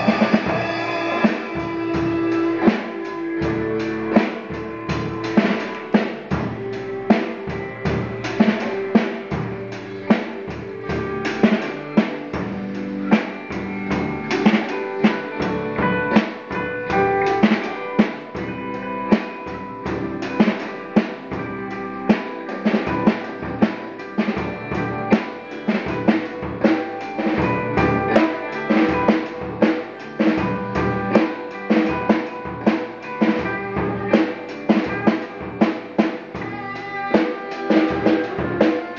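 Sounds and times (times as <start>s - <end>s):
drum kit steady beat: 0.0s - 38.9s
electric guitar playing melody: 0.0s - 38.9s.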